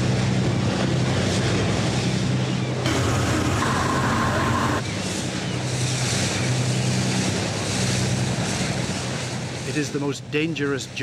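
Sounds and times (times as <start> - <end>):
boat engine running: 0.0 - 11.0
sea noise: 0.0 - 11.0
wind: 0.0 - 11.0.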